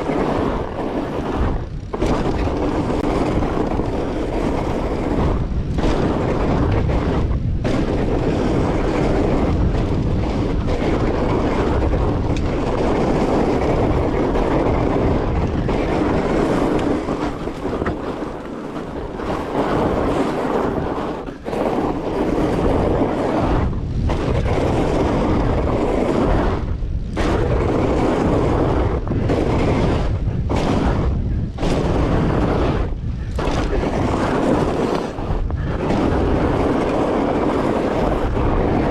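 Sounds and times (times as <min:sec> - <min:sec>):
bike rolling noise: 0:00.0 - 0:38.9
wind buffeting microphone: 0:00.0 - 0:38.9.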